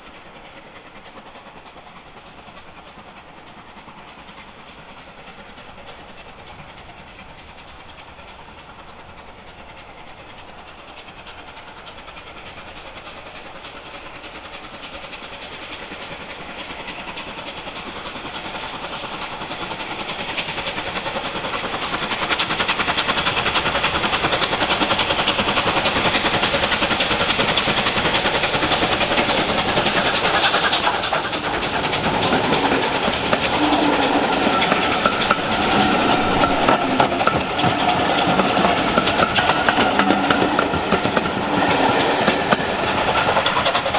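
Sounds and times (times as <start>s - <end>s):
steam locomotive exhaust beats: 0.0s - 43.9s
train wheels clicking: 0.0s - 43.9s.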